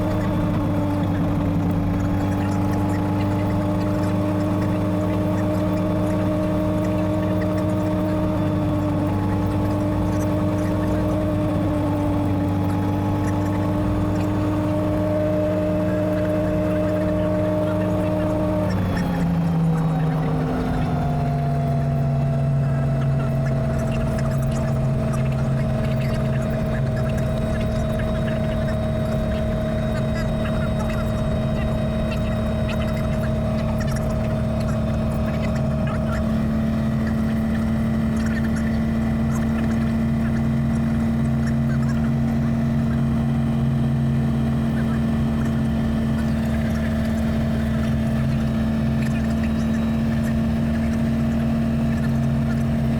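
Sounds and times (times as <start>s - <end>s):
helicopter engine and rotors idling: 0.0s - 52.9s.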